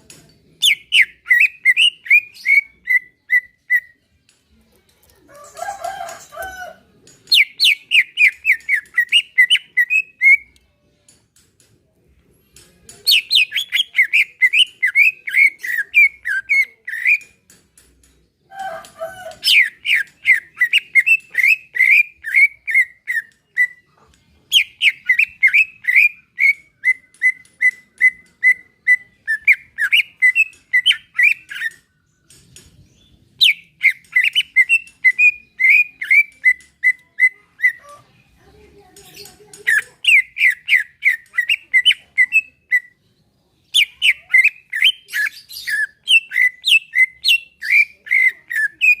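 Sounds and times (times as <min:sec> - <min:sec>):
bird singing chipping notes: 0:00.0 - 0:04.8, 0:05.4 - 0:49.0.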